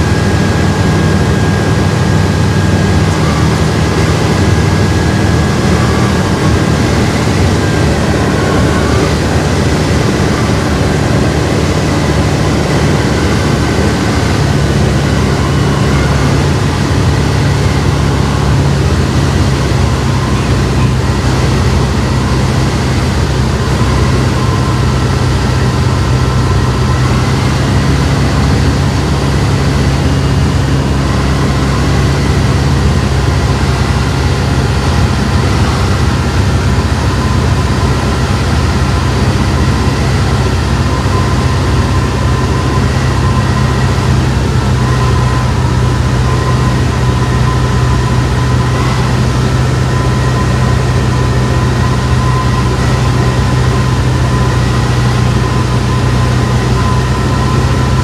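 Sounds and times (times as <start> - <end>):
air noise: 0.0 - 58.0
light aircraft engine drone: 0.0 - 58.0.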